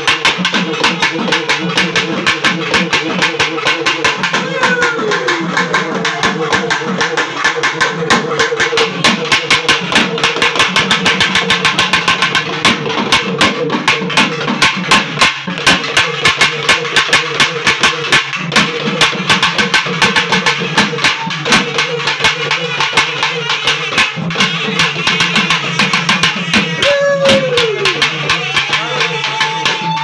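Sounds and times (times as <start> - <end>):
drums beating fast: 0.0 - 30.0.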